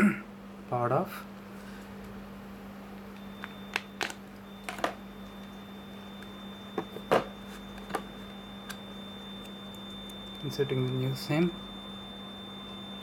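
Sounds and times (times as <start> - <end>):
faint high whine: 0.0 - 13.0
steady low hum: 0.0 - 13.0.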